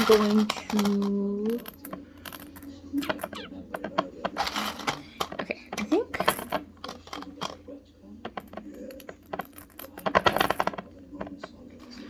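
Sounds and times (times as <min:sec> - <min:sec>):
crystals clicking and clinking: 0:00.0 - 0:07.6, 0:08.3 - 0:10.8.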